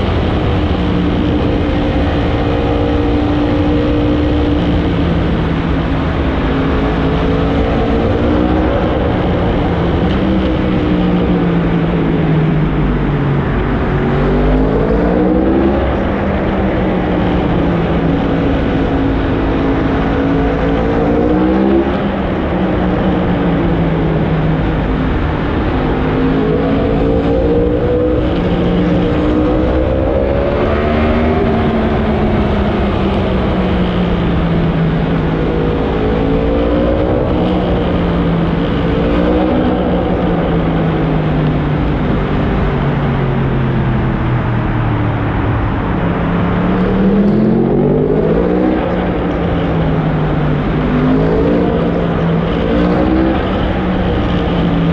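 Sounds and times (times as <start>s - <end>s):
motorcycle engine revving: 0.0s - 44.2s, 45.2s - 54.9s.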